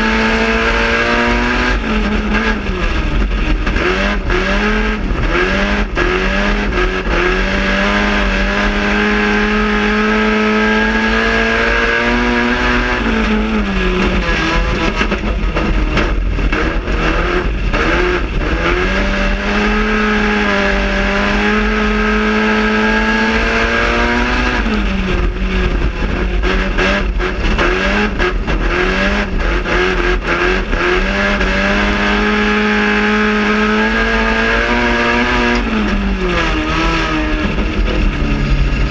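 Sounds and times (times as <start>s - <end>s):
raspy race car engine: 0.0s - 38.9s.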